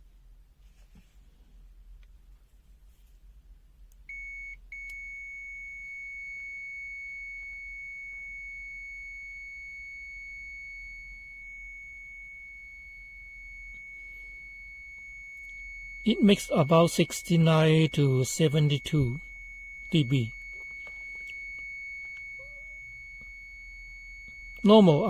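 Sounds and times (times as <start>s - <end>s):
multimeter continuity beep: 4.1s - 25.0s.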